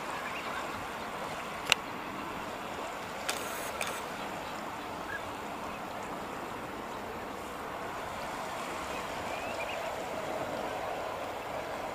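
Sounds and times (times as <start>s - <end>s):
rushing outdoor air: 0.0s - 11.9s.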